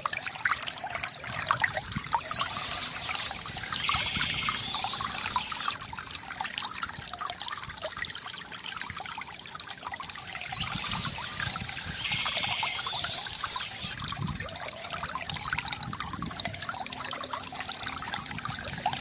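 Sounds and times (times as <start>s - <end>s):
stream trickling over stones: 0.0s - 19.0s.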